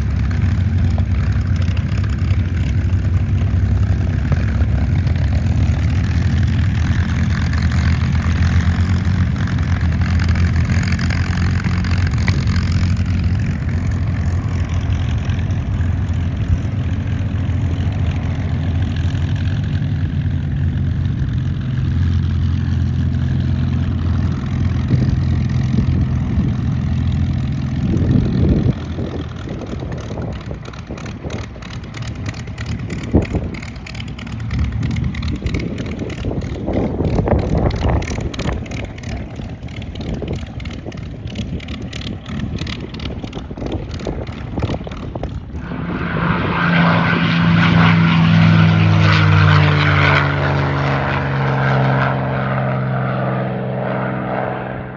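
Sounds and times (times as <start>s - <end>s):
aircraft passing overhead: 0.0s - 54.9s
piston aircraft engine droning: 0.0s - 54.9s.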